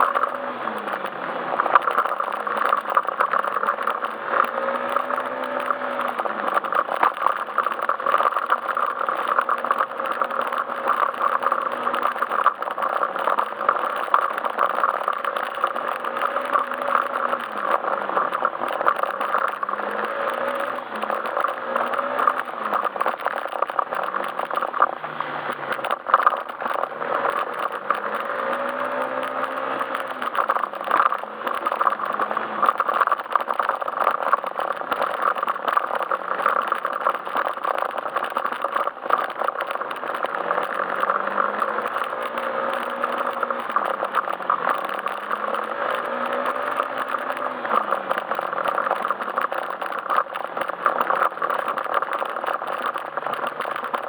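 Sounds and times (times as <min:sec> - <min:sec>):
scooter engine revving: 0:00.0 - 0:33.7, 0:39.6 - 0:50.9
road noise and rattling: 0:00.0 - 0:54.0.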